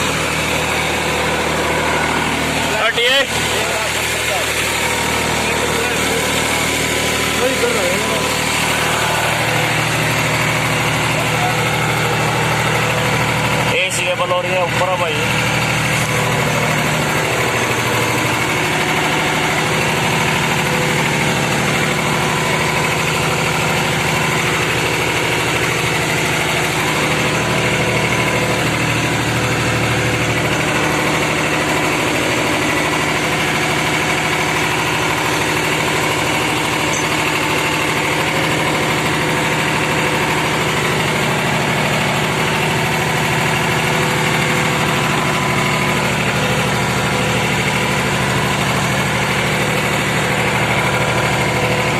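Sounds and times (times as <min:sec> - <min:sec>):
tractor diesel engine idling: 0:00.0 - 0:51.9.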